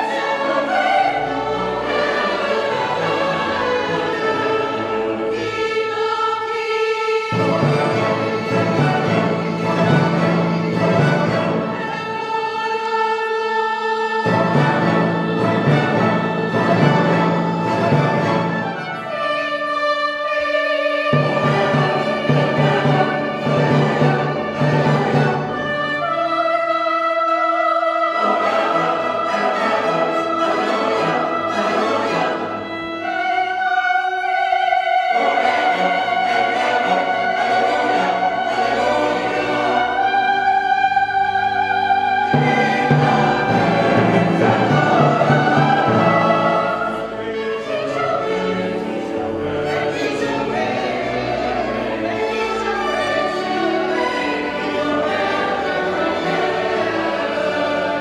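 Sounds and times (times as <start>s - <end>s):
choir singing with orchestra: 0.0s - 58.0s.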